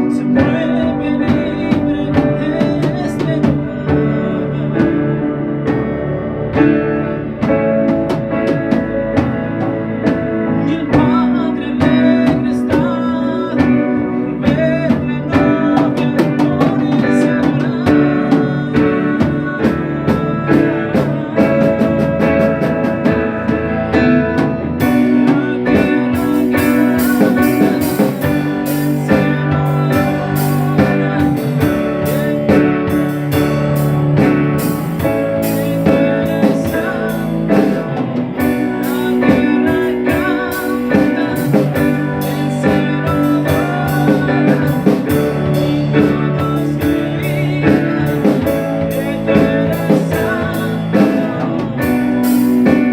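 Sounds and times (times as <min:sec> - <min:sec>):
drums: 0:00.0 - 0:52.9
lead guitar melody: 0:00.0 - 0:52.9.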